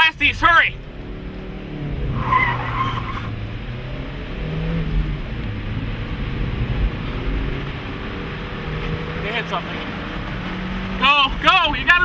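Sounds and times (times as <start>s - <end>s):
vehicle engine accelerating: 0.6s - 12.0s.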